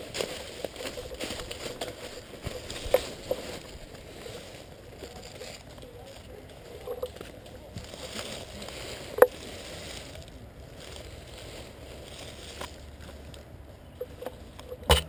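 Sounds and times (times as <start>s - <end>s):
rustling gear and undergrowth: 0.0s - 15.0s.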